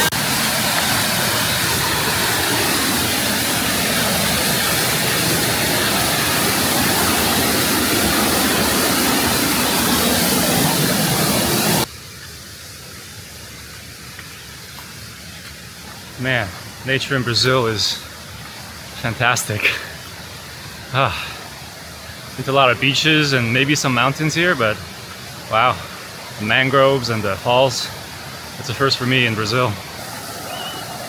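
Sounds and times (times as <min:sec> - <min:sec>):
waterfall rushing: 0:00.0 - 0:12.1, 0:15.2 - 0:31.0.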